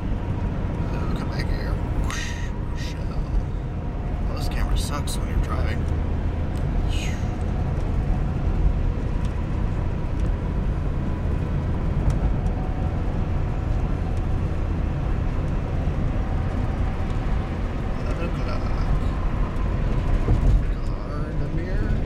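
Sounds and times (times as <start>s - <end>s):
road and engine noise in vehicle: 0.0s - 22.0s.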